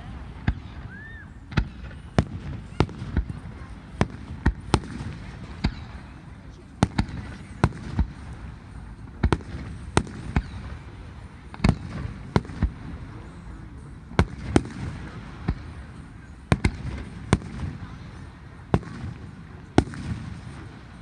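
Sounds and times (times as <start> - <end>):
fireworks bursting with sharp bangs: 0.0 - 21.0.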